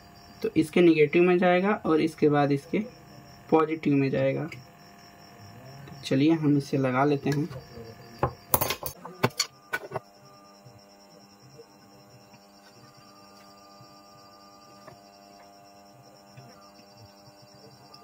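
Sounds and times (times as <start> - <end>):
faint electrical mains hum: 0.0 - 18.0
faint pulsing high whine: 0.0 - 18.0.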